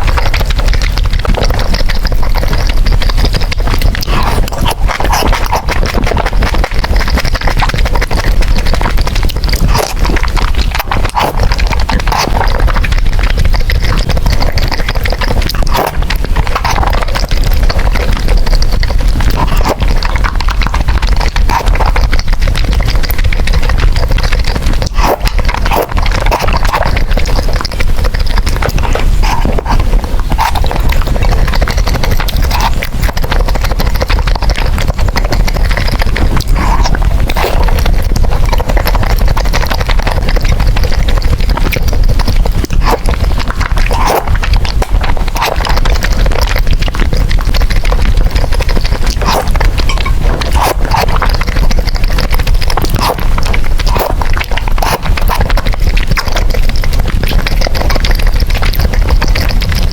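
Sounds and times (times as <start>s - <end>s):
slurping and chewing noodles: 0.0s - 59.9s
steady low rumble: 0.0s - 59.9s
wet mouth clicks: 0.0s - 59.9s.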